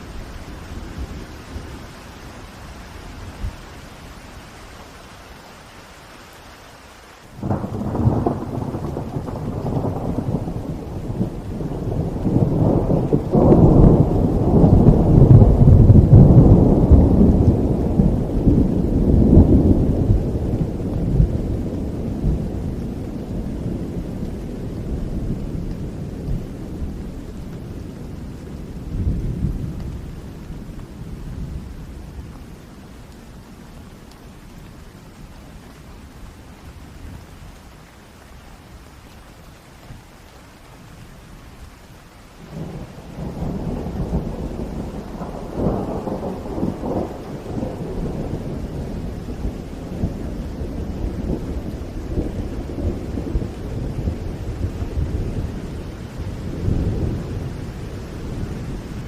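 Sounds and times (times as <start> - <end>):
steady rain falling: 0.0 - 59.0
thunder rumbling: 7.3 - 37.9, 42.3 - 59.0.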